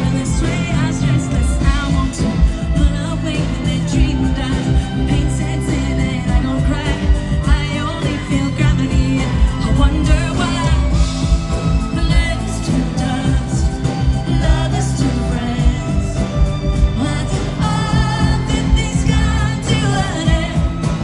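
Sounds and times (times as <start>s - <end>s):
lead vocal singing: 0.0s - 21.0s
live pop band playing: 0.0s - 21.0s.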